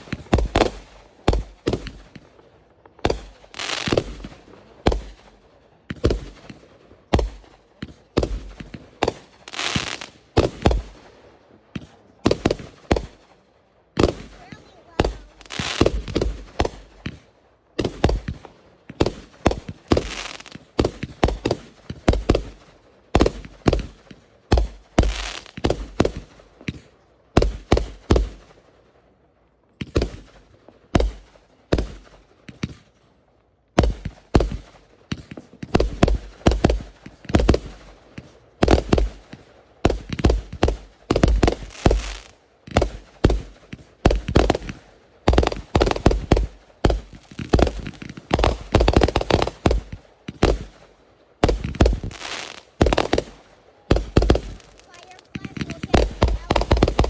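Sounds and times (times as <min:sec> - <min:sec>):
fireworks banging: 0:00.0 - 0:28.6, 0:29.8 - 0:33.0, 0:33.8 - 0:57.0.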